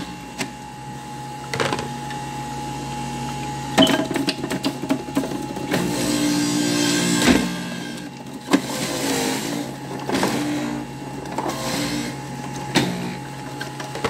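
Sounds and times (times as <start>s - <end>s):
juicer motor humming: 0.0s - 14.0s.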